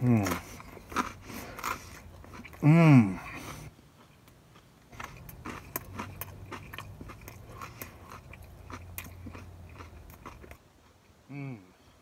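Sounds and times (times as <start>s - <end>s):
crunchy chewing: 0.0s - 11.2s.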